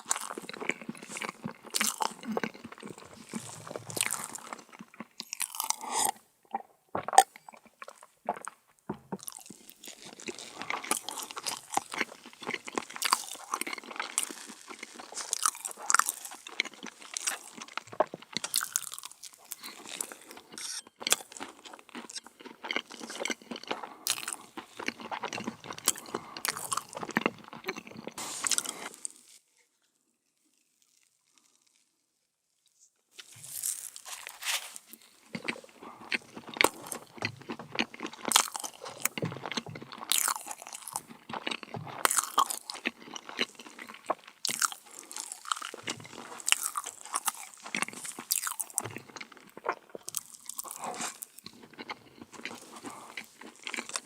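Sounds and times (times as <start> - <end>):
crunching meringue cookies: 0.0 - 8.6, 9.2 - 32.0, 33.1 - 54.0.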